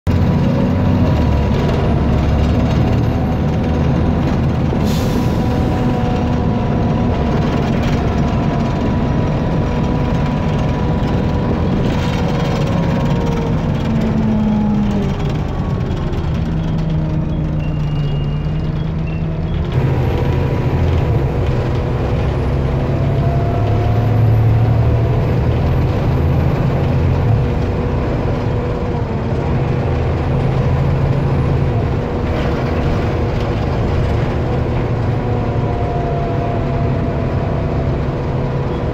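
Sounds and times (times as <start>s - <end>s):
bus diesel engine roaring: 0.0s - 38.9s.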